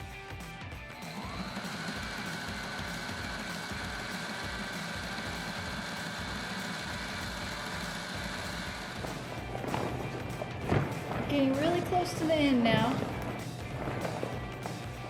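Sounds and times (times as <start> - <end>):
sewing machine running: 0.9 - 15.0.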